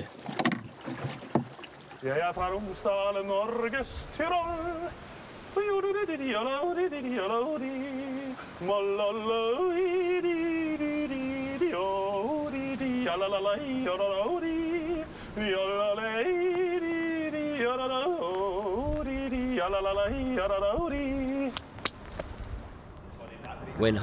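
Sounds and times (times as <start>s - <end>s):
man yodeling: 2.2s - 21.6s.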